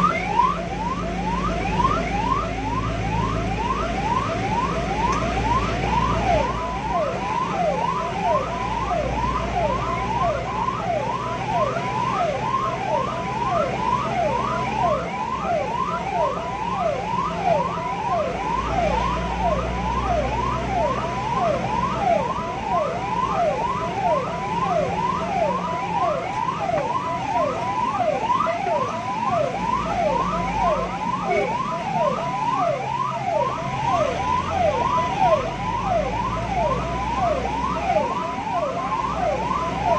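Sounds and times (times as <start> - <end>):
ambulance siren yelping: 0.0 - 39.9
vehicle engine and road noise: 0.0 - 39.9.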